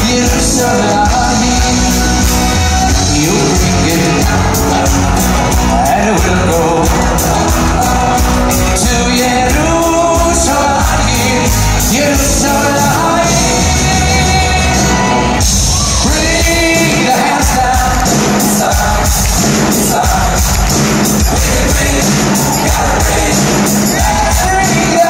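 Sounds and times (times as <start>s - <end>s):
live band playing pop song: 0.0s - 25.0s
man singing: 0.0s - 25.0s.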